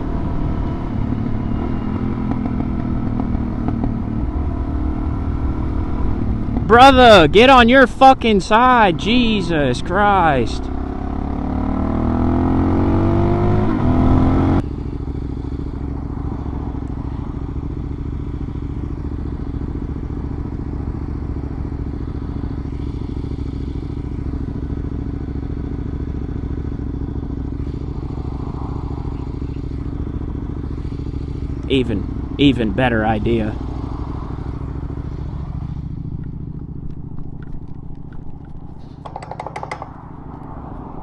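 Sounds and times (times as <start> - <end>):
motorcycle engine revving: 0.0 - 7.7, 8.6 - 41.0.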